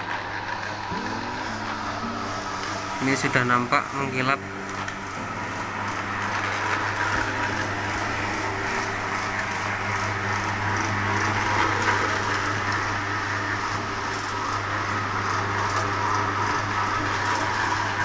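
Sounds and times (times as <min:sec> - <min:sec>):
floor polisher running: 0:00.0 - 0:18.0.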